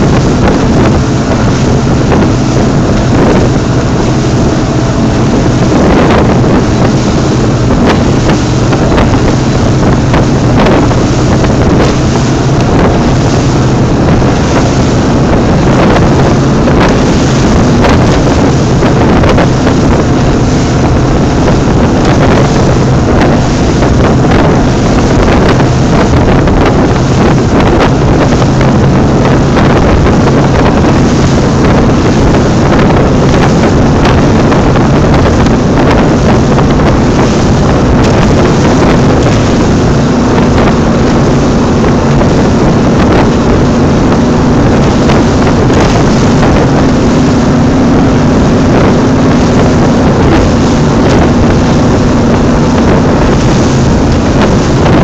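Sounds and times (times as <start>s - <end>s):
speedboat engines droning: 0.0s - 55.0s
wind rushing over microphone: 0.0s - 55.0s.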